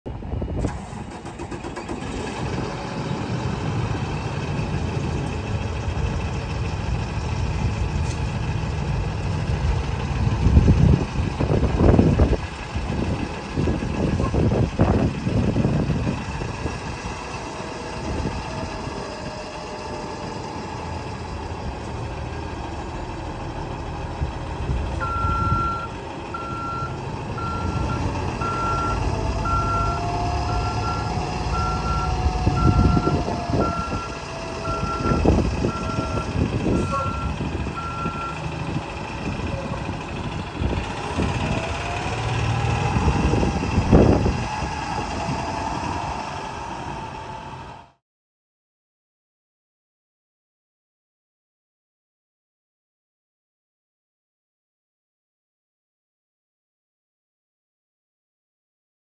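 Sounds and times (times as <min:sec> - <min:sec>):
bus engine running: 0:00.1 - 0:48.0.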